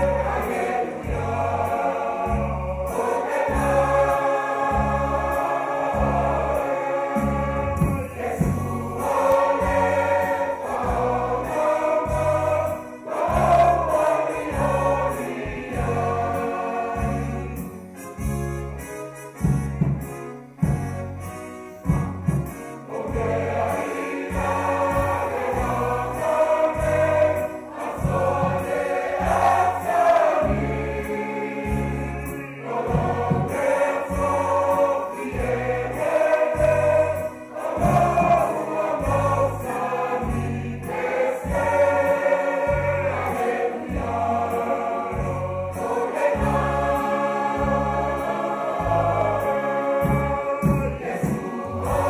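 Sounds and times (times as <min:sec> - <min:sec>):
group of voices singing: 0:00.0 - 0:18.1, 0:22.8 - 0:52.0.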